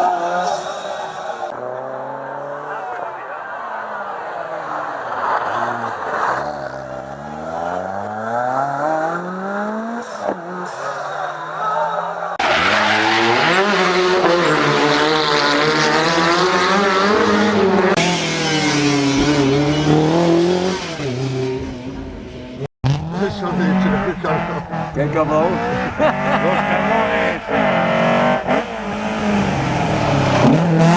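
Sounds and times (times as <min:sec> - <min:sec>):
rally car engines revving: 0:00.0 - 0:30.9.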